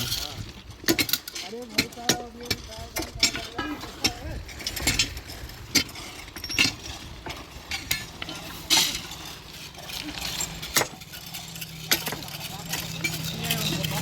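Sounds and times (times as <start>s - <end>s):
hand tools clinking on rails: 0.0s - 14.0s.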